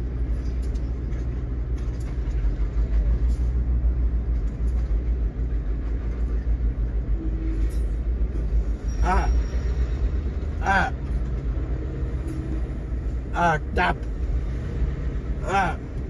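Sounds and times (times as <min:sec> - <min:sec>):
faint train clicks: 0:00.0 - 0:13.0
train passing with low rumble: 0:00.0 - 0:16.0.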